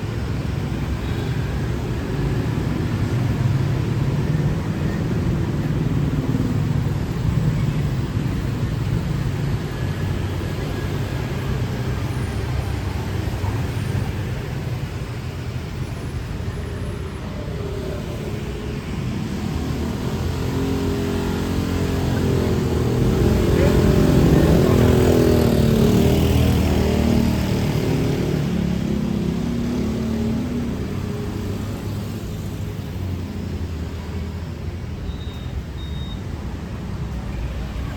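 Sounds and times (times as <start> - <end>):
traffic rumble: 0.0 - 37.9.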